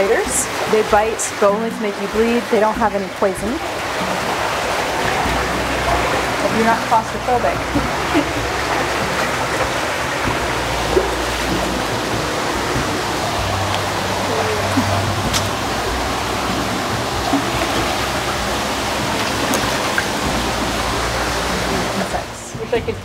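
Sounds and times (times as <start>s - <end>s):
water rushing in a cave: 0.0s - 23.0s.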